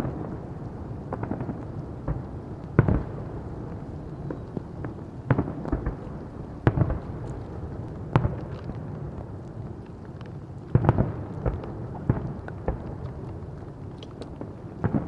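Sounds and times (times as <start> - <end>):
fireworks crackling: 0.0 - 9.8, 10.7 - 15.0.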